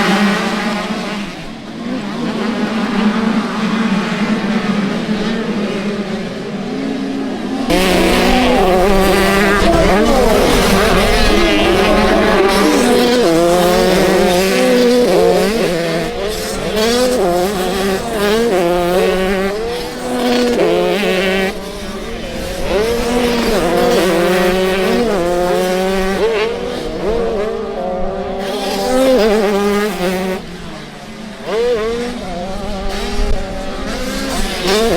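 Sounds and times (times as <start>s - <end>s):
motocross bike engines revving: 0.0s - 34.9s.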